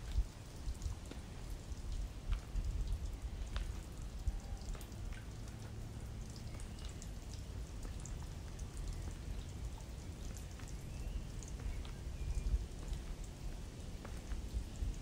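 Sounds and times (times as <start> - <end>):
light ticks and crackles: 0.0 - 15.0.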